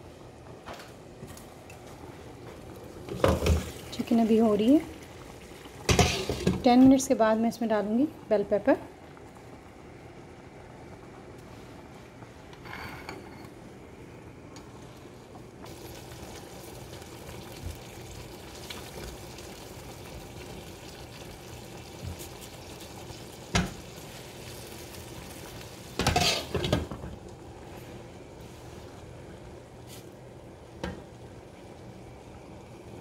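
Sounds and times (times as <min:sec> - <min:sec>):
sauce simmering and bubbling: 0:00.0 - 0:06.8, 0:07.7 - 0:12.6, 0:13.6 - 0:33.0.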